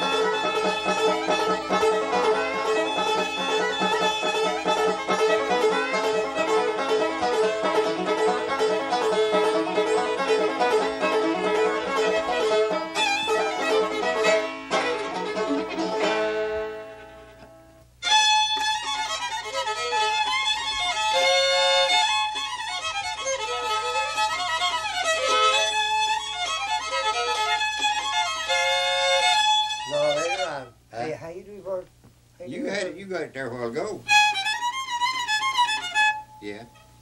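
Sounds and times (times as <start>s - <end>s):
music: 0.0s - 30.8s, 34.0s - 37.0s
two fiddles playing: 0.0s - 31.8s, 32.4s - 37.0s.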